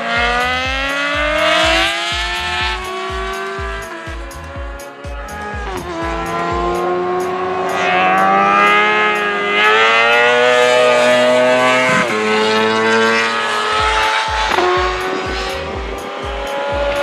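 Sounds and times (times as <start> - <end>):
racing engine accelerating: 0.0 - 17.0.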